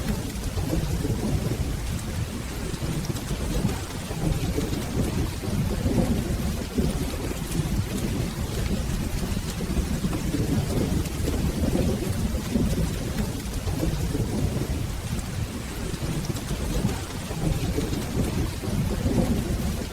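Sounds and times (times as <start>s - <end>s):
rolling thunder: 0.0s - 19.9s
steady rain: 0.0s - 19.9s.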